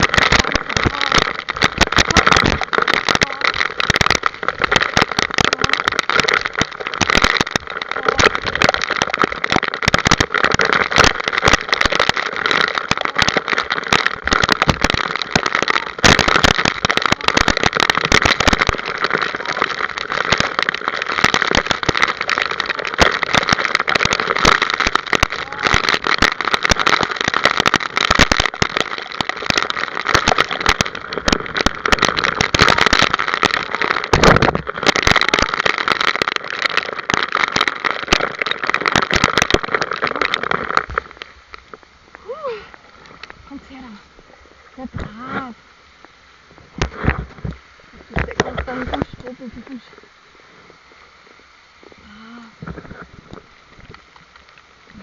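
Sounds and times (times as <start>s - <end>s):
cart rattling and crackling: 0.0s - 45.5s, 46.5s - 50.1s
wind noise on microphone: 0.0s - 45.6s, 46.4s - 49.8s, 50.5s - 55.0s.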